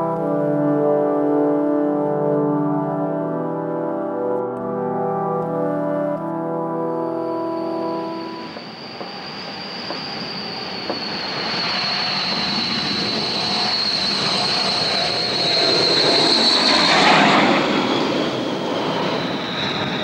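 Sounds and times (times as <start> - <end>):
turboprop aircraft whine passing: 0.0 - 20.0.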